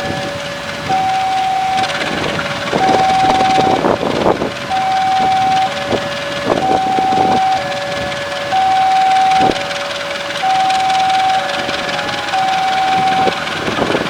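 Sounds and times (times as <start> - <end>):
level crossing two-tone alarm: 0.0 - 4.0, 4.7 - 14.0
passing train rumble: 0.0 - 14.0.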